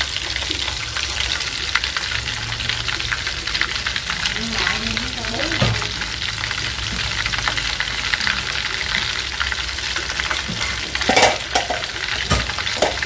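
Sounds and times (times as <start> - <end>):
shrimp sizzling in hot oil: 0.0 - 13.0.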